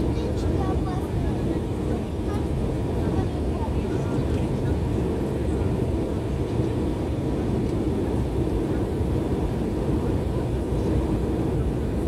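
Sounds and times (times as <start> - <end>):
jet engine rumble in cabin: 0.0 - 12.0
rushing airflow: 0.0 - 12.0.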